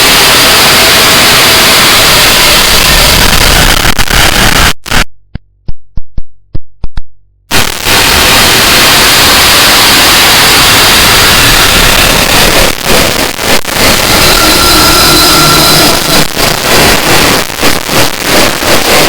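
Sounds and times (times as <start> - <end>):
distorted static noise music: 0.0 - 5.1, 7.5 - 19.0.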